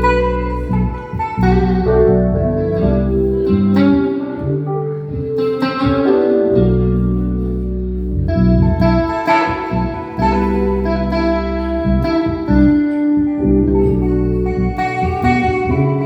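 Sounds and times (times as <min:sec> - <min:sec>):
bass line: 0:00.0 - 0:16.0
plucked guitar music: 0:00.0 - 0:16.0.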